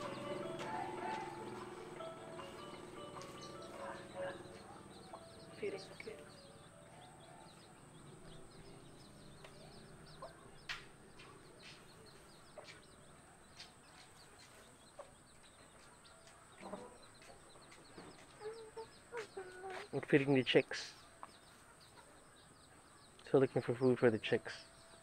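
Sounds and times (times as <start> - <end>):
high chick peeps: 0.0 - 20.1
chickens clucking: 0.0 - 25.0.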